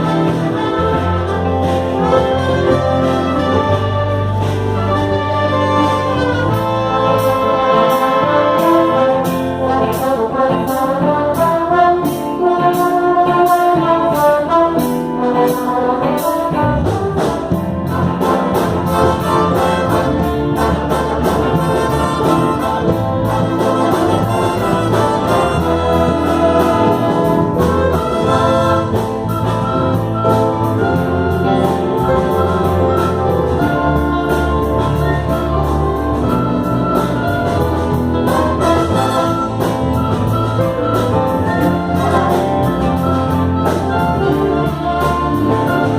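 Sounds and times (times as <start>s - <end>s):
brass band playing: 0.0s - 45.9s
steady drum beat: 0.0s - 45.9s.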